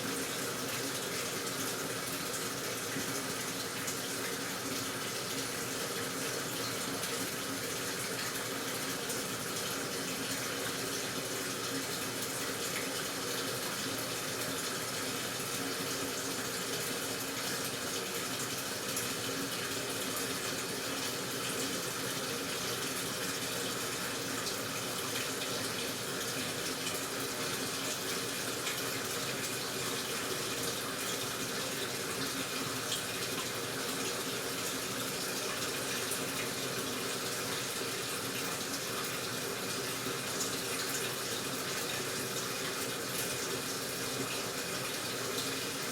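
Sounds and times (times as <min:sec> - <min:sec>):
water rushing into washing machine: 0:00.0 - 0:45.9.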